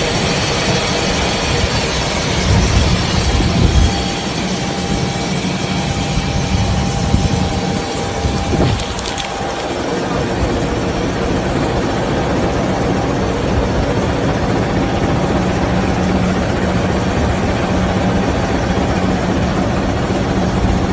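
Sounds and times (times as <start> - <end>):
train rumbling past: 0.0 - 20.9.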